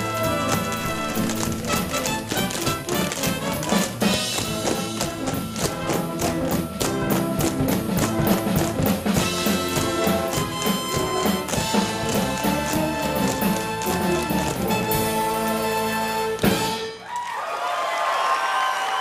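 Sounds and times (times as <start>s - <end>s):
tap shoes on wooden stage: 0.0s - 16.9s
pit orchestra playing show tune: 0.0s - 17.1s.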